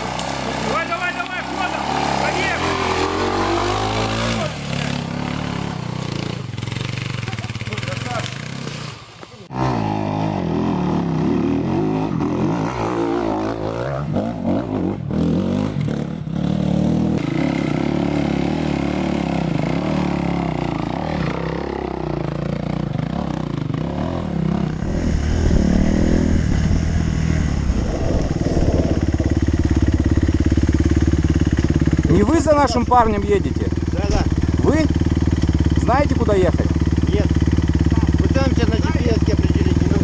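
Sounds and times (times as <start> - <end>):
dirt bike engine running: 0.0 - 40.0
dirt bike engines revving: 0.0 - 40.0.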